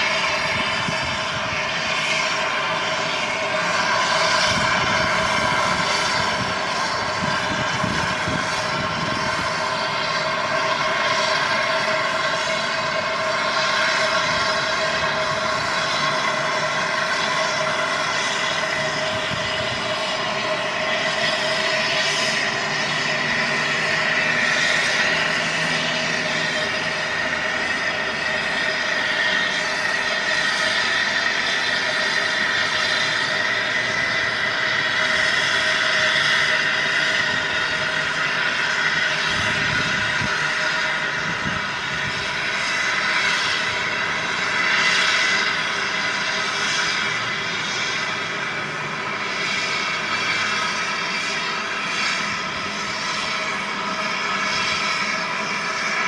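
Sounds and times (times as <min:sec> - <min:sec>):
steam locomotive roaring: 0:00.0 - 0:56.0.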